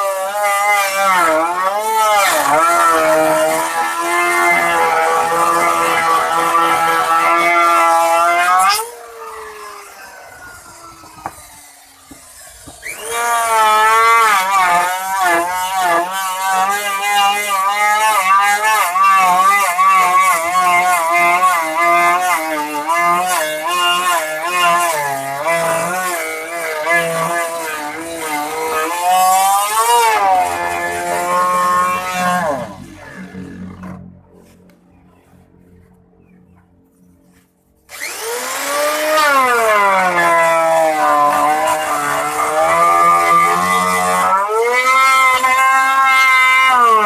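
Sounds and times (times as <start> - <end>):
wood router whining: 0.0 - 47.0.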